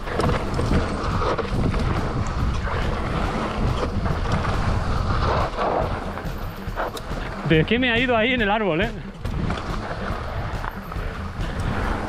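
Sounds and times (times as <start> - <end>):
bike tyre noise: 0.0 - 12.0
wind buffeting microphone: 0.0 - 12.0.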